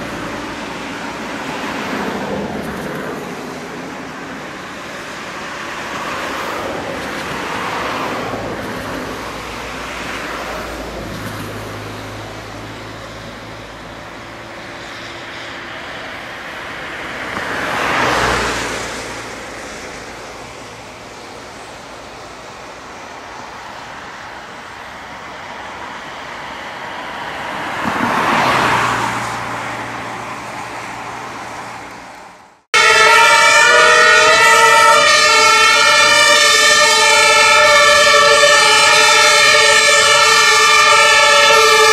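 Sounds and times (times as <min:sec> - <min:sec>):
idling engines hum: 0:00.0 - 0:41.9
vehicles passing: 0:00.0 - 0:41.9.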